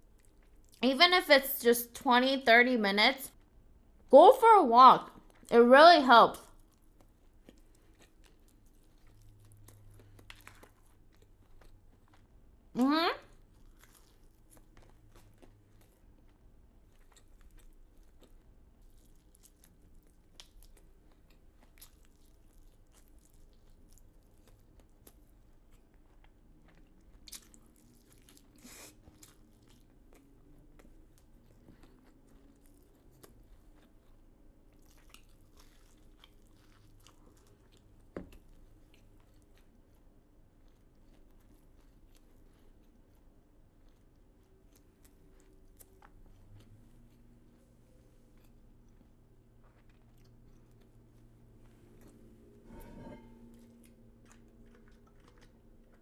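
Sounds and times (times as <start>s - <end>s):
faint chewing with crunches: 0.0s - 0.8s, 3.3s - 4.1s, 5.0s - 56.0s.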